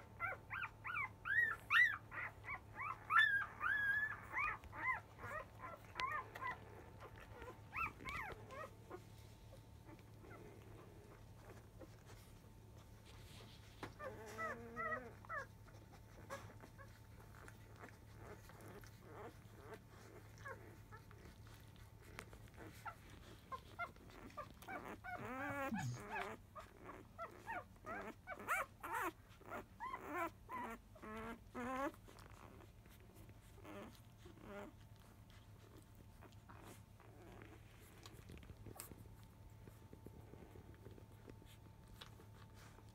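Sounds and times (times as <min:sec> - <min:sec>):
puppies squeaking and whimpering: 0:00.0 - 0:42.9.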